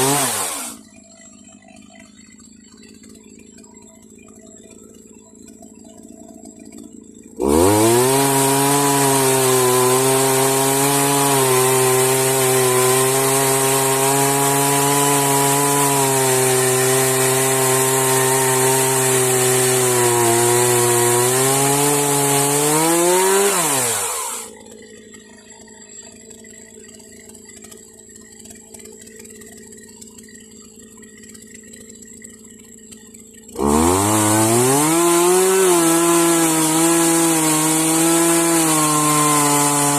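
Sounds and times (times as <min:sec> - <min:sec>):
chainsaw sawing through wood: 0:00.0 - 0:39.9.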